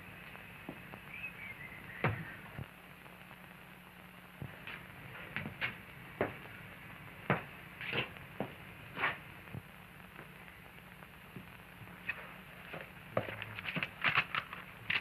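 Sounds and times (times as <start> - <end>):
film soundtrack hiss and hum: 0.0 - 15.0.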